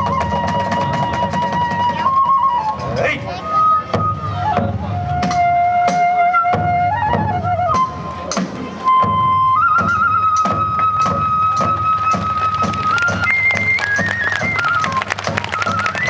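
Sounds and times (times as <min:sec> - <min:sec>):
bamboo flute long notes: 0:00.0 - 0:16.0.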